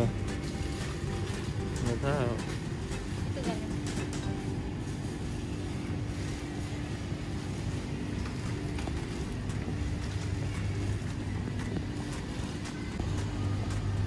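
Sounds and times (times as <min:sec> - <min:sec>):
refrigerator hum: 0:00.0 - 0:14.0.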